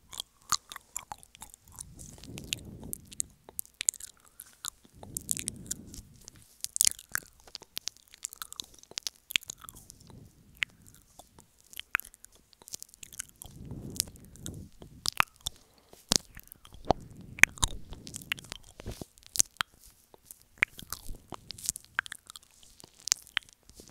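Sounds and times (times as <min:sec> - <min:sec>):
soft rustling: 0:00.0 - 0:23.9
wet mouth clicks and smacks: 0:00.0 - 0:23.9.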